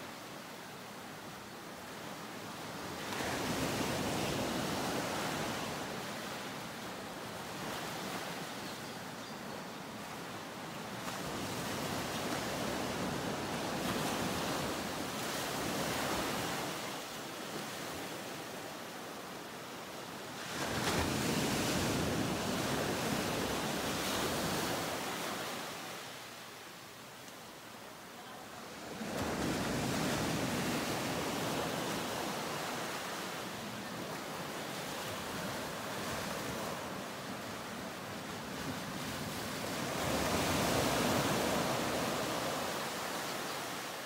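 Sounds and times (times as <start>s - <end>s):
ocean surf washing: 0.0s - 9.2s, 9.8s - 27.2s, 27.8s - 44.0s.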